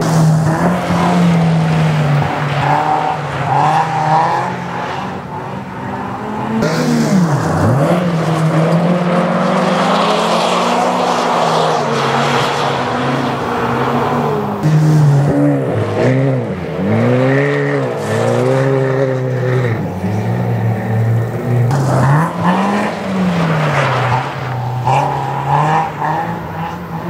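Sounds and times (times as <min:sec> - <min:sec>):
racing car engines revving: 0:00.0 - 0:27.0.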